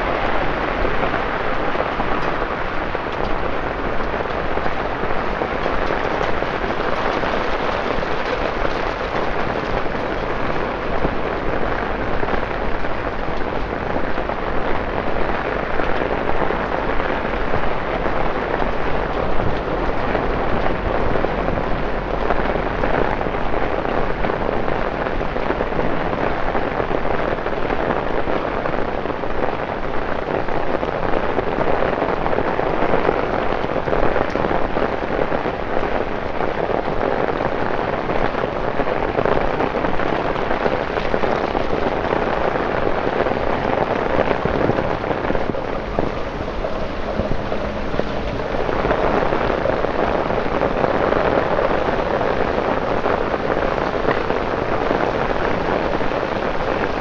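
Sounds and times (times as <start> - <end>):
heavy rain on road: 0.0 - 57.0.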